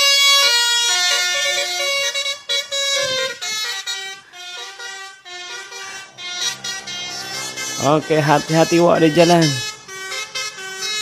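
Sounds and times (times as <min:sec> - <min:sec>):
lorry multi-tone air horn tune: 0:00.0 - 0:11.0.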